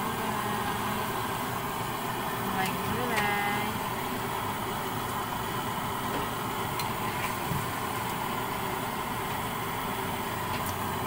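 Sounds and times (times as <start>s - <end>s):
stove cooking rushing noise: 0.0s - 11.0s.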